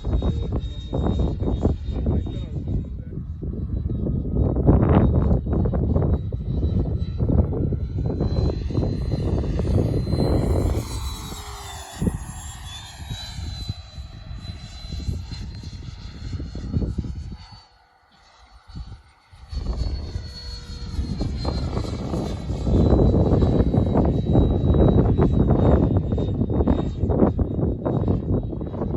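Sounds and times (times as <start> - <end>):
rc jet fan whine: 0.0 - 28.9
wind rumble on microphone: 0.0 - 28.9.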